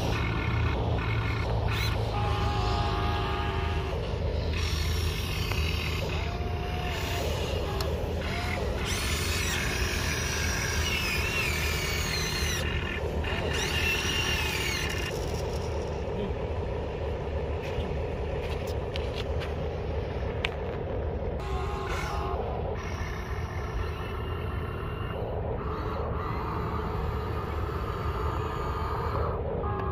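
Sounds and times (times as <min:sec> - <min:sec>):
electric motors whirring hum: 0:00.0 - 0:29.9.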